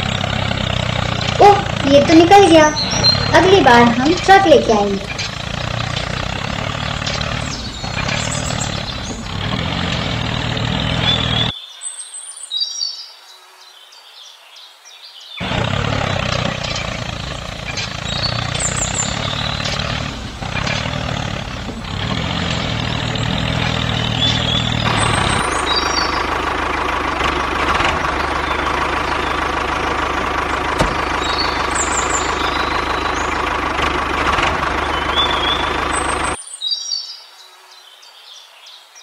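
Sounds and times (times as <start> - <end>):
tractor engine running: 0.0 - 11.5, 15.4 - 36.4.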